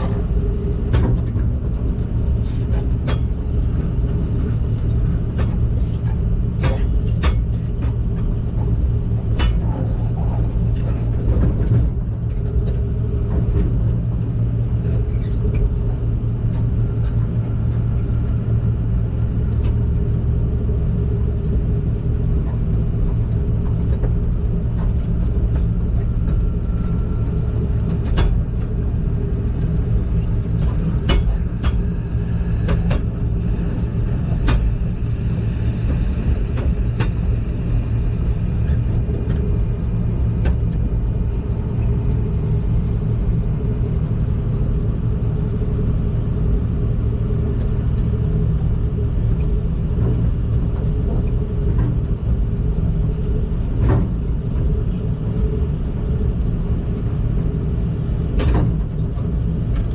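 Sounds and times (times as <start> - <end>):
heavy machine engine running: 0.0 - 59.9.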